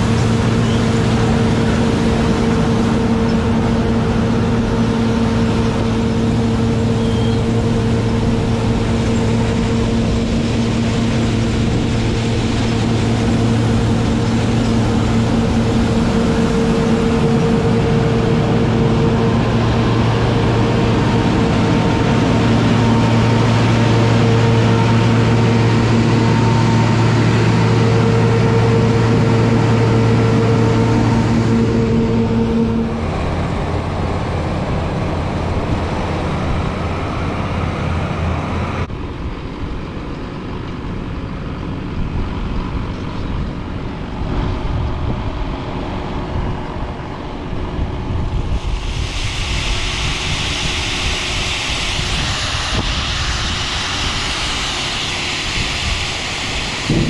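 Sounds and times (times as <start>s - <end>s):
tractor engine: 0.0s - 48.8s, 51.1s - 57.0s
combine harvester humming: 0.0s - 57.0s.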